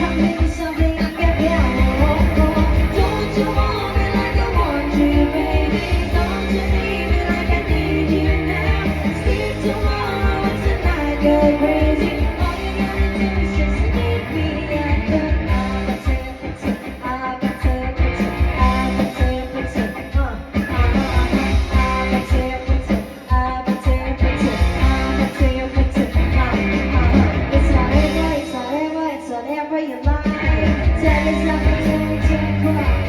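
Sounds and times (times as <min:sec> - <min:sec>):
bass and drum beat: 0:00.0 - 0:28.9, 0:30.0 - 0:33.0
live rock band playing: 0:00.0 - 0:33.0
person singing: 0:00.0 - 0:33.0.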